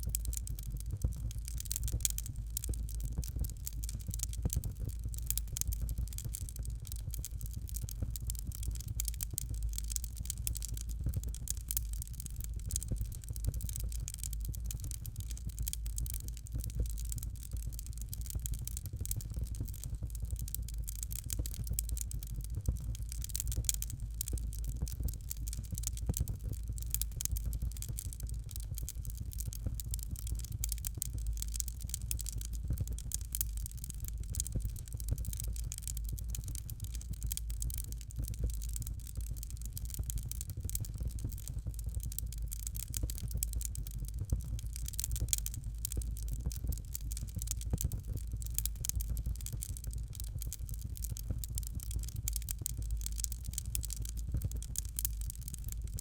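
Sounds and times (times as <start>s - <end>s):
fire crackling: 0.0s - 56.0s
low rumble of flames: 0.0s - 56.0s.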